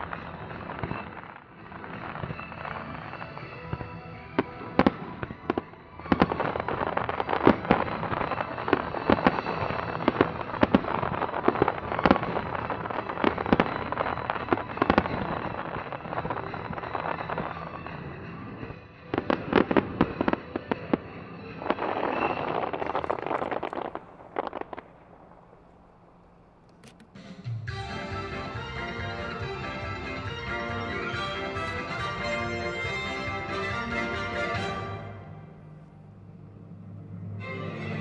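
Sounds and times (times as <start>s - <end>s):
fireworks bangs and crackling: 0.0s - 36.0s.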